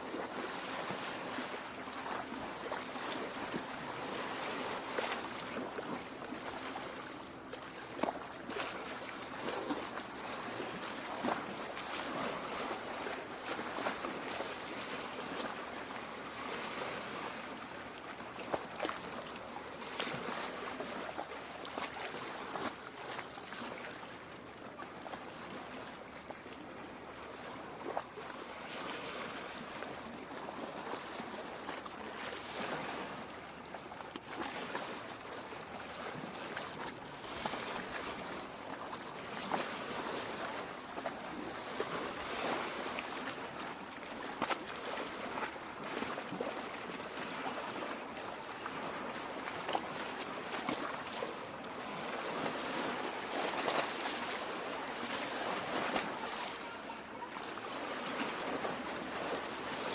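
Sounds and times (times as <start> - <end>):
small water splashes: 0.0 - 59.9
lake water lapping on rocks: 0.1 - 15.8, 27.4 - 59.9.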